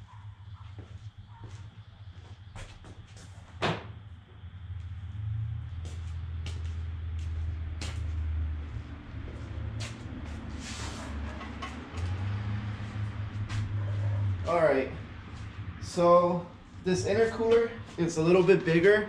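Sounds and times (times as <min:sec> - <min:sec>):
steady low rumble: 0:00.0 - 0:11.1, 0:12.7 - 0:19.0.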